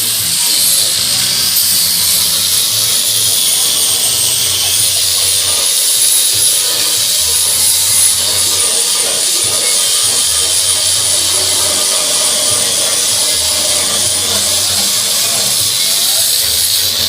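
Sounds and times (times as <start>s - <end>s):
power woodworking tool running: 0.0s - 17.0s.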